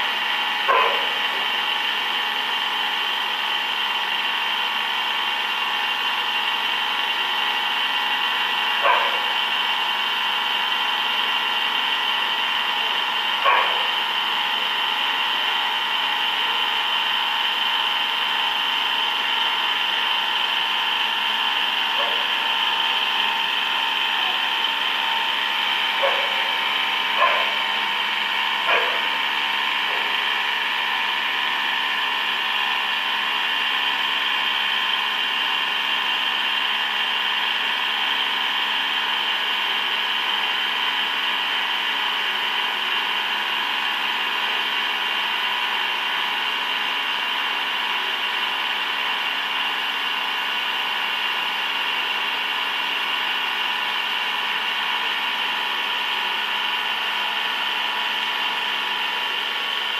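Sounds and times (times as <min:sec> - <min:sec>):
heavy machine tool whining: 0:00.0 - 0:48.4.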